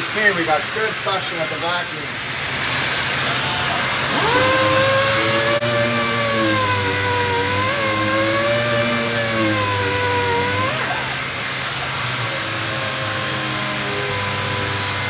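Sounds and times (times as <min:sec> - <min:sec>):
dust extraction vacuum rushing: 0:00.0 - 0:15.0
orbital sander whining: 0:00.0 - 0:15.0.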